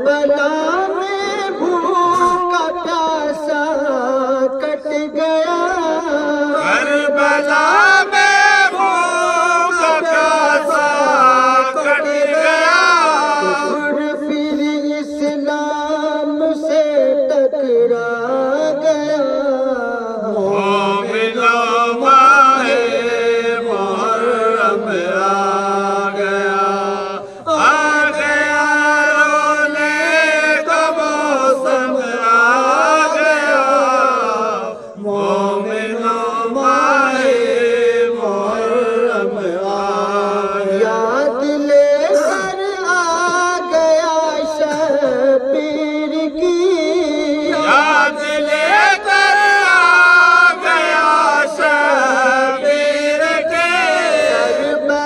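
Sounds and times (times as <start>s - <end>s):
male voices chanting a lament: 0.0s - 55.0s.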